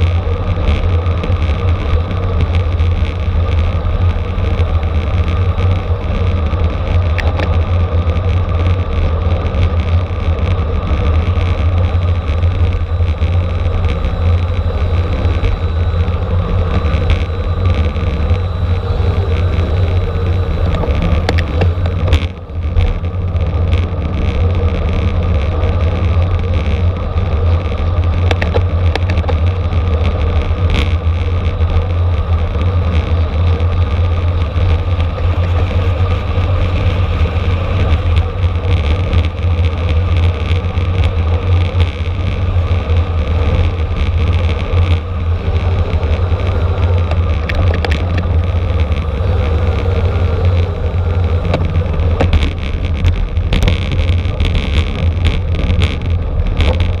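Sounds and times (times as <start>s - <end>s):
road and tyre noise: 0.0s - 57.0s
wind rumble on microphone: 0.0s - 57.0s.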